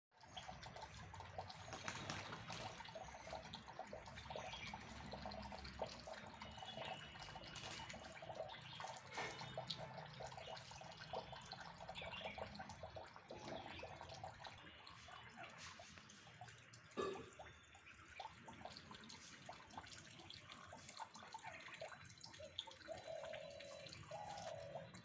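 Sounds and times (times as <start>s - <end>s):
songbirds chirping: 0.2s - 25.0s.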